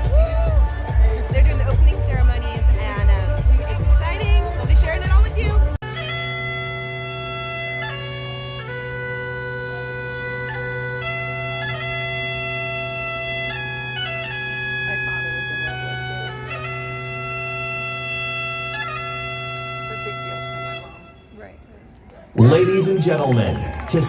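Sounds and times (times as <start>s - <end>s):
bagpipe melody: 0.0s - 21.3s
bagpipe drones: 0.0s - 21.4s.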